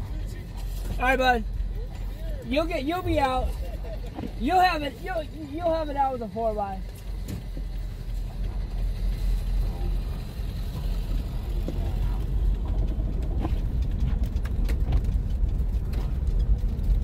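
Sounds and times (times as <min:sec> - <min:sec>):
motor vehicle engine rumble: 0:00.0 - 0:17.0.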